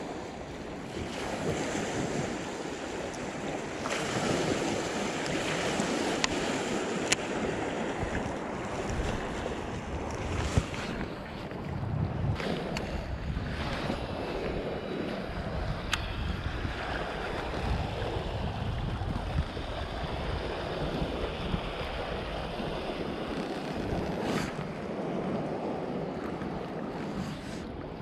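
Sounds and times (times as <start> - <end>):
water lapping and splashing: 0.0 - 28.0
wind buffeting microphone: 0.0 - 28.0.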